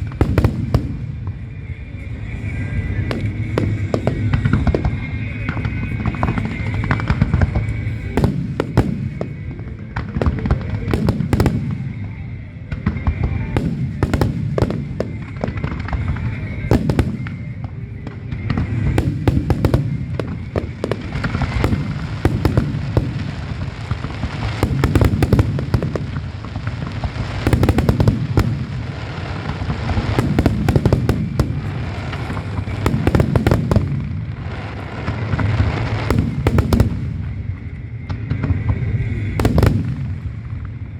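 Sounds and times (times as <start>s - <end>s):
fireworks booming and cracking: 0.0s - 40.9s.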